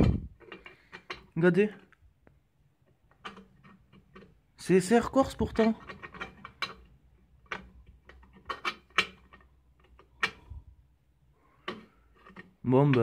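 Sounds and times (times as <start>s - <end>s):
metal exhaust parts clicking: 0.1s - 13.0s.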